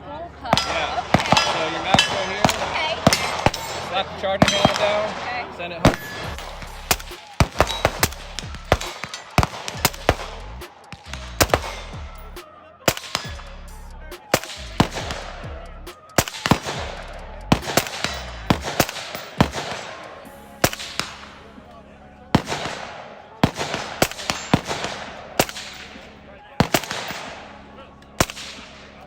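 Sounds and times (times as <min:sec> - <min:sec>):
rifle shots with echo: 0:00.5 - 0:21.7, 0:22.3 - 0:29.0.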